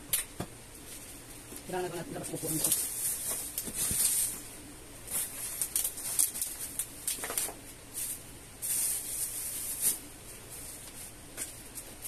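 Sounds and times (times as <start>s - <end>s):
plastic wrapping crinkling: 0.8s - 12.0s.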